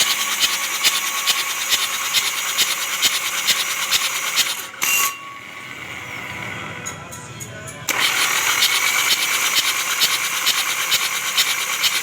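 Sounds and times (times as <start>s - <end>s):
diesel engine cranking: 0.0s - 12.0s.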